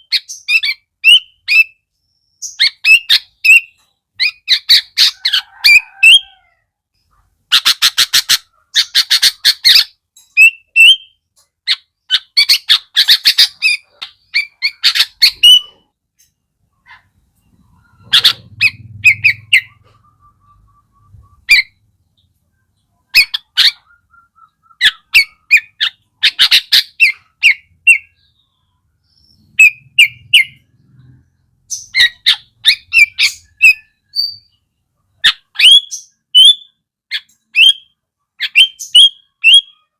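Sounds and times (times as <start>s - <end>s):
bird chattering and whistling: 0.0s - 6.4s, 7.5s - 34.6s, 35.2s - 39.9s.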